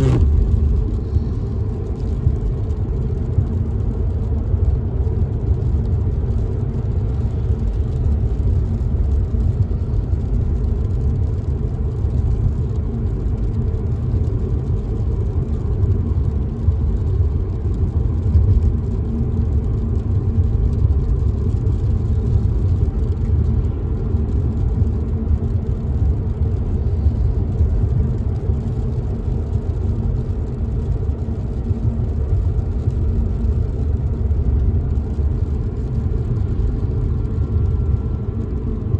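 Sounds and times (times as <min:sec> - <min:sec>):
car driving heard from inside: 0:00.0 - 0:38.9.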